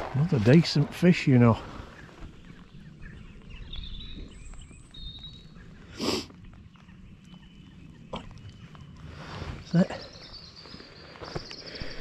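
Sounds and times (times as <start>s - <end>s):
outdoor lakeside ambience: 0.0s - 12.0s.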